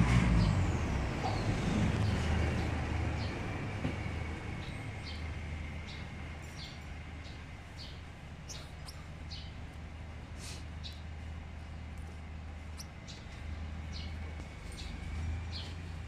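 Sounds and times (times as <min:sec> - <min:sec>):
steady low hum: 0:00.0 - 0:16.0
finches chirping: 0:00.4 - 0:03.6, 0:04.4 - 0:11.1, 0:12.6 - 0:15.8.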